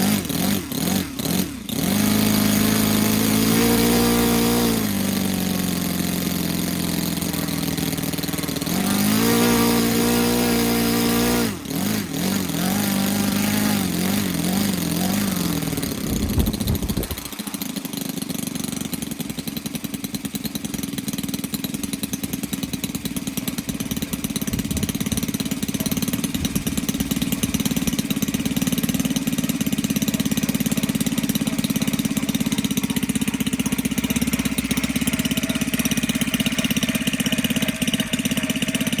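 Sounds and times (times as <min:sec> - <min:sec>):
model aircraft engine running: 0:00.0 - 0:39.0.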